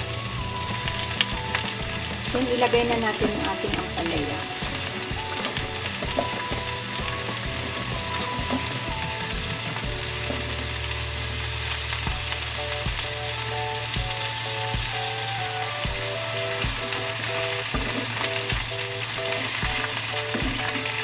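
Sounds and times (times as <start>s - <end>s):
meat and vegetables sizzling in a pot: 0.0s - 21.0s.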